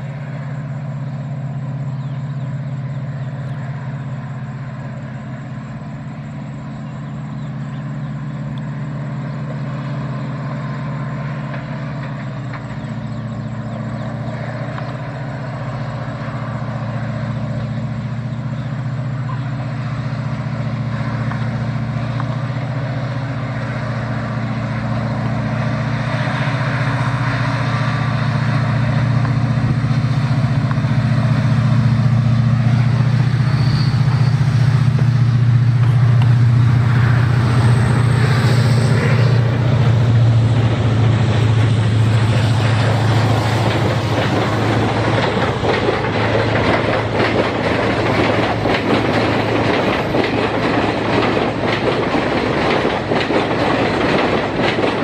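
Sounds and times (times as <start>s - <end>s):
diesel locomotive engine drone: 0.0s - 55.0s
rail noise: 0.0s - 55.0s.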